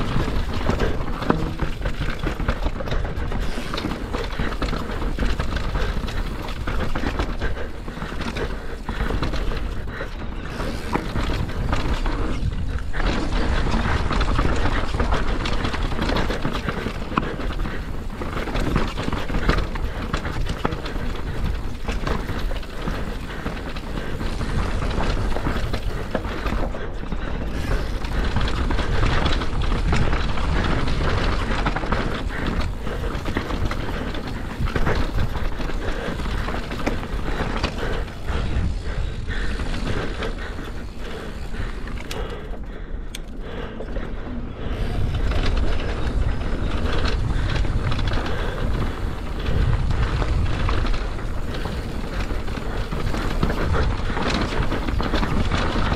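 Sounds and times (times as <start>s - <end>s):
bike clattering over rough ground: 0.0s - 55.9s
wind rumbling on microphone: 0.0s - 55.9s.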